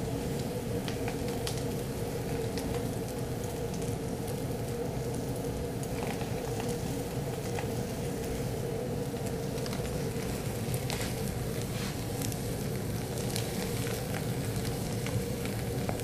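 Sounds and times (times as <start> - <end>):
constant hum: 0.0 - 16.0
faint crackles: 0.0 - 16.0
rushing flame: 0.0 - 16.0.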